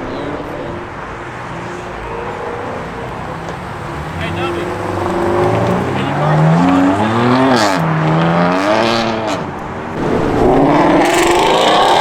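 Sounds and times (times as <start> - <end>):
car engine accelerating: 0.0 - 12.0
loud engine: 0.2 - 12.0.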